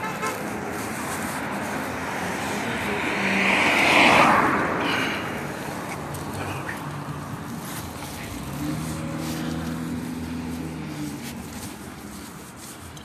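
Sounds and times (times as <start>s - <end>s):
car passing: 0.0s - 13.0s
low car engine hum: 0.0s - 13.0s.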